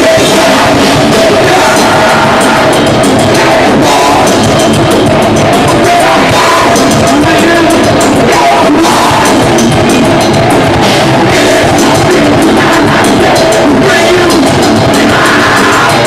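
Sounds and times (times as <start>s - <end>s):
distorted electric guitars: 0.0s - 16.0s
person singing: 0.0s - 16.0s
pounding drum kit: 0.0s - 16.0s.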